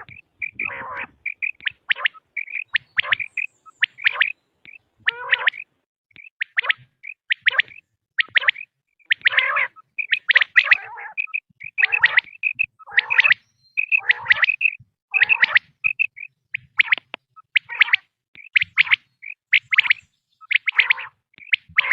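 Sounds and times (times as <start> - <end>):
recorded quail calls: 0.0 - 21.9.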